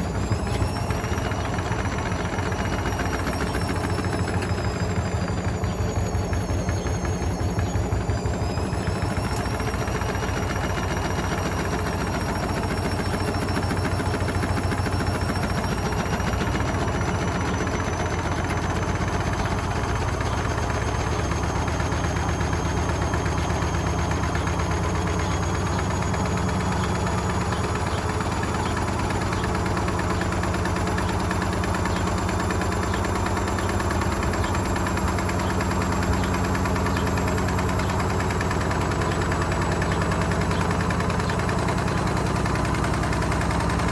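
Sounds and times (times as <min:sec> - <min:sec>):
motor high whine: 0:00.0 - 0:43.9
washing machine rumbling: 0:00.0 - 0:43.9.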